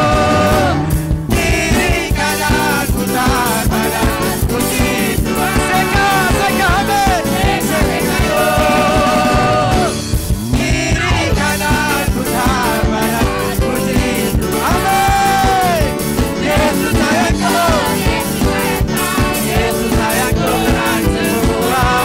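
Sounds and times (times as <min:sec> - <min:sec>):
women singing: 0:00.0 - 0:10.0, 0:10.6 - 0:22.0
gospel band playing: 0:00.0 - 0:22.0.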